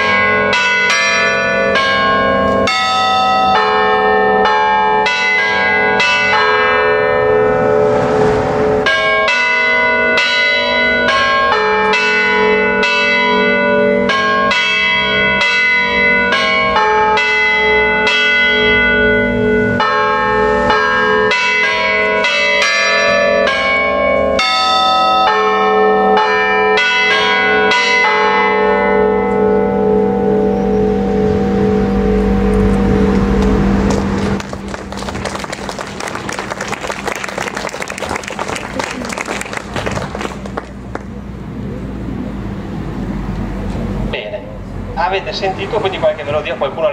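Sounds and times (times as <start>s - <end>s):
church bells ringing melody: 0.0s - 38.8s.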